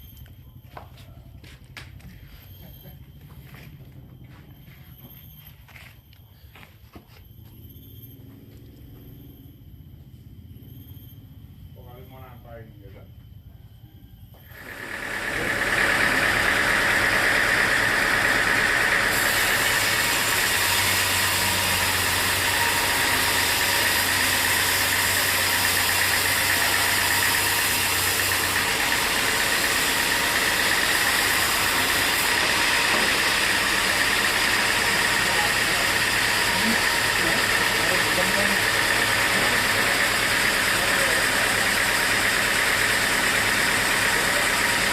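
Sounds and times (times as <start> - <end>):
sawmill machinery running: 0.0 - 7.5, 14.3 - 44.9.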